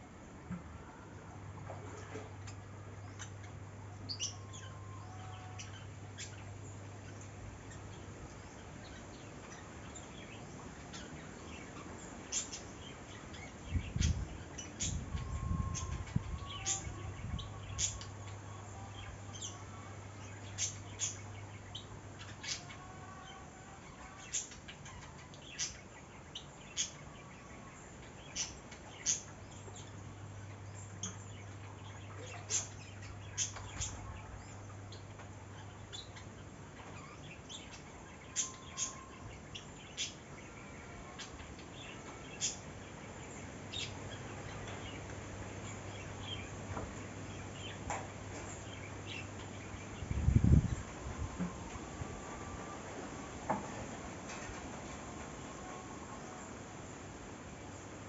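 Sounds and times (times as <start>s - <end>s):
low steady hum: 0.0s - 58.0s
small birds chirping: 2.4s - 58.0s.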